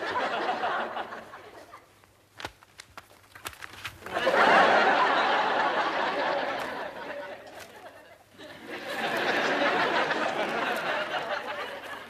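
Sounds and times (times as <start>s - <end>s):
audience laughing: 0.0s - 1.9s, 4.1s - 12.0s.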